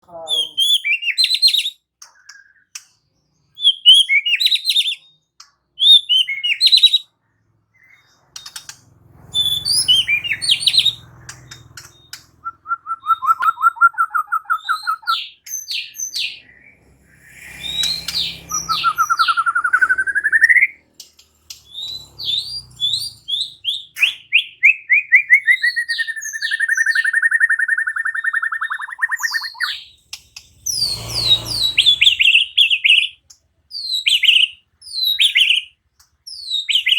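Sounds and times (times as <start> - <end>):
songbird singing chirps and trills: 0.1 - 36.9.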